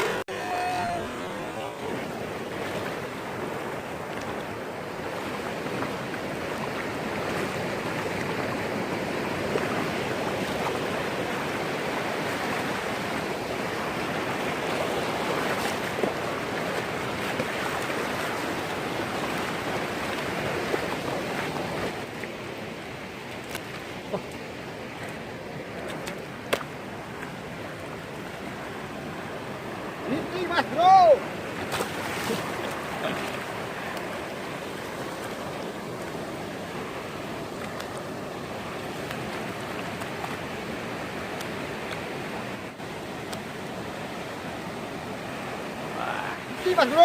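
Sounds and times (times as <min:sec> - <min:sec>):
sea surf washing on shore: 0:00.0 - 0:47.0.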